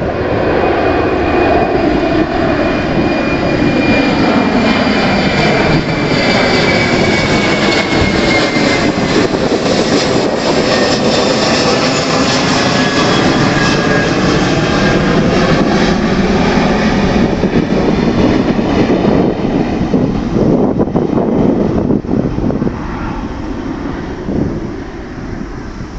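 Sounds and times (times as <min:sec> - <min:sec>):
aircraft rushing noise: 0:00.0 - 0:25.9.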